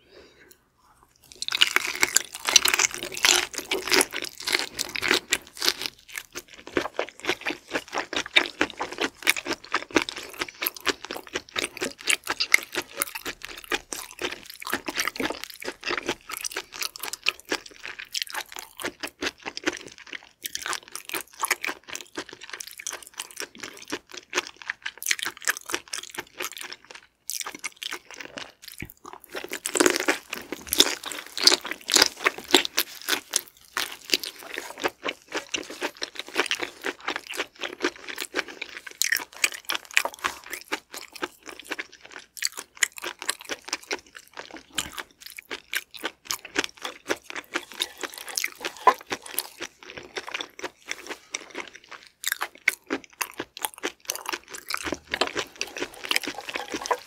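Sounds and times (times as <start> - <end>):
crunchy wet chewing: 1.1 - 57.0.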